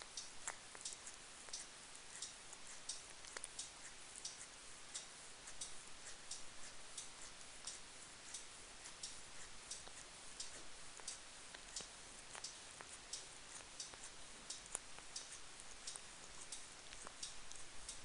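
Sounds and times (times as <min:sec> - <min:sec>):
cat licking fur: 0:00.0 - 0:18.0.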